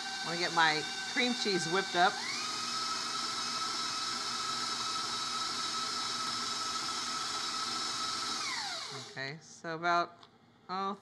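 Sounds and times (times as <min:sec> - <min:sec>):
stand mixer motor whirring: 0:00.0 - 0:09.2.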